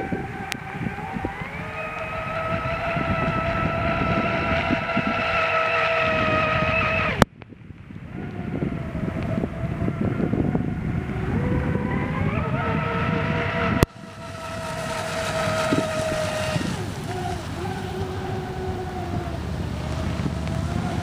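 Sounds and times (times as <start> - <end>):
boat motor high-pitched whine: 0.0 - 21.0.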